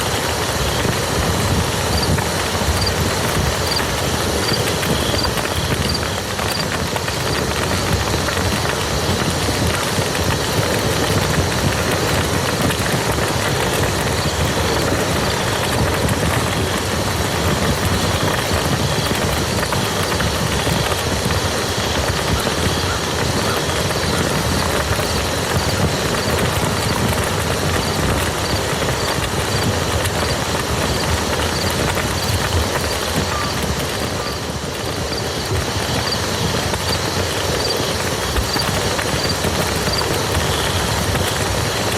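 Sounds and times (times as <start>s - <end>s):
rain falling on muddy field: 0.0s - 41.9s.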